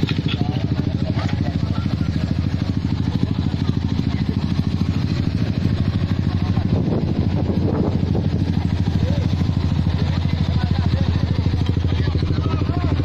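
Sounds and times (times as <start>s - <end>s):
faint voices: 0.0s - 13.0s
motorcycle engine idling: 0.0s - 13.0s.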